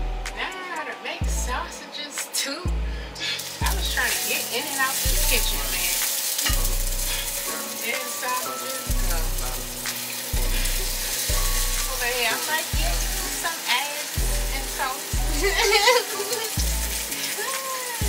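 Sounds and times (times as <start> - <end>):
music with deep bass: 0.0 - 18.0
person singing: 0.0 - 18.0
food sizzling in a frying pan: 0.2 - 18.0.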